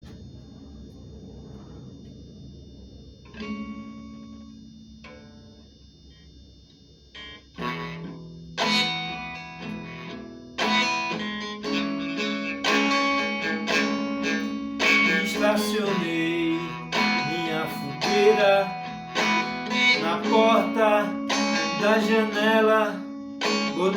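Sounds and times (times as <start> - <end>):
guitar chords plucked and strummed: 3.3 - 5.8, 7.2 - 23.9.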